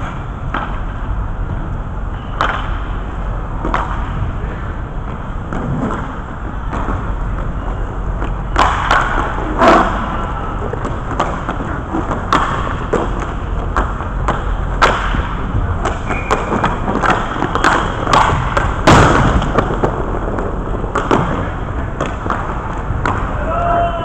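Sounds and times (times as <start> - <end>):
hockey sticks and puck hitting boards: 0.0 - 1.0, 2.4 - 3.0, 3.6 - 4.2, 5.5 - 23.9
steady low hum: 0.0 - 24.0.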